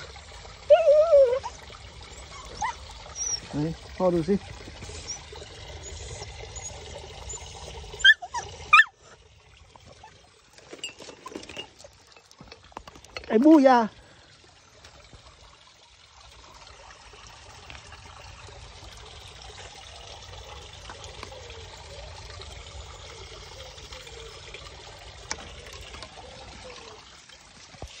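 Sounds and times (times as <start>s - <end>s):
water trickling: 0.0s - 28.0s.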